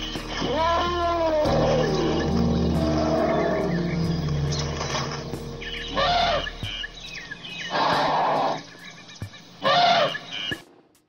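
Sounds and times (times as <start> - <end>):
elephant trumpeting calls: 0.0 - 8.7, 9.6 - 10.3
faint chirps: 0.0 - 10.6.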